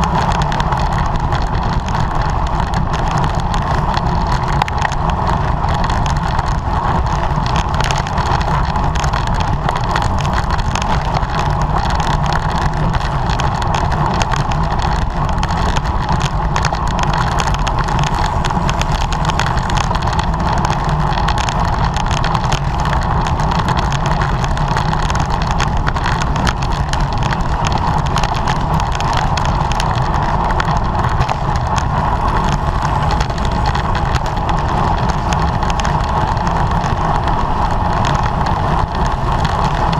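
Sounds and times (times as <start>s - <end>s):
low rumble: 0.0s - 39.9s
road noise: 0.0s - 39.9s
wind rush: 0.0s - 39.9s.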